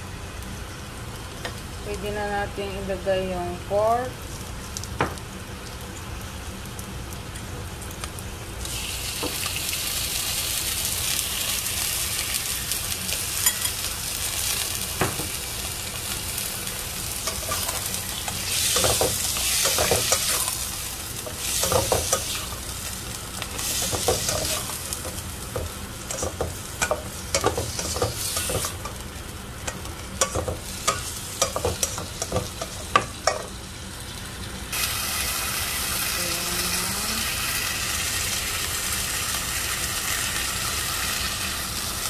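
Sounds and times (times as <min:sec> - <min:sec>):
meat sizzling in hot oil: 0:00.0 - 0:42.0.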